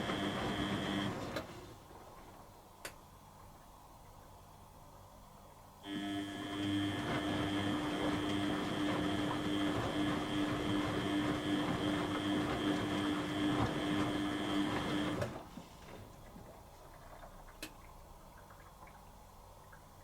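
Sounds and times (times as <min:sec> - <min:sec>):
washing machine hum and whine: 0:00.0 - 0:20.0.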